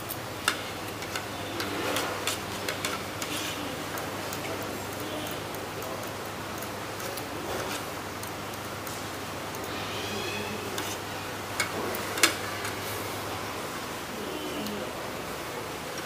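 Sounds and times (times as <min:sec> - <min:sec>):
street food stall background: 0:00.0 - 0:16.0.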